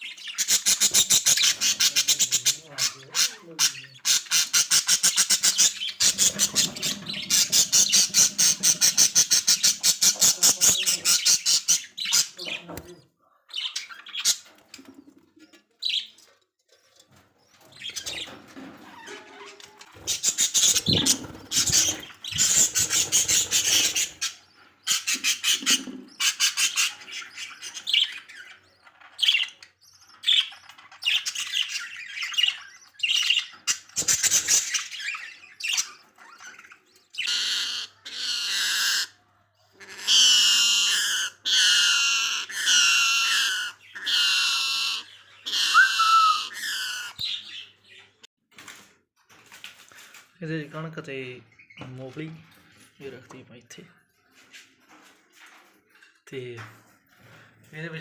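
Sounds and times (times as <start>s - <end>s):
budgerigars chirping and squawking: 0.0s - 48.3s.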